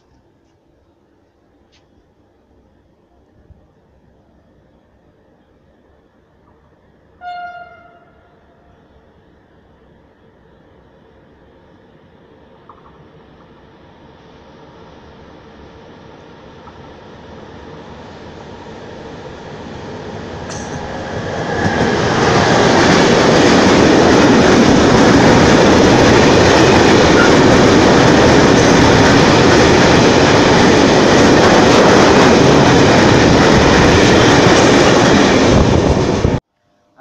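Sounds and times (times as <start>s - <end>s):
freight train passing: 0.0s - 37.0s.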